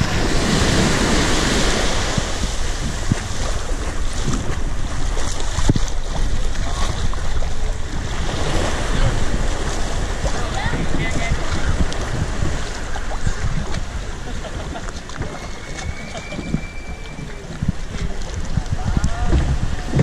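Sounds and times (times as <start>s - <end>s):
small waves on sandy beach: 0.0s - 20.0s
wind rumbling on microphone: 0.0s - 20.0s.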